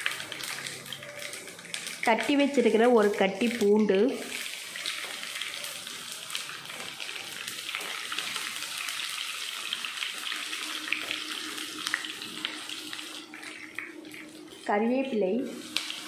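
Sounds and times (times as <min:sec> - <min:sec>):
garlic sizzling in oil: 0:00.0 - 0:16.0.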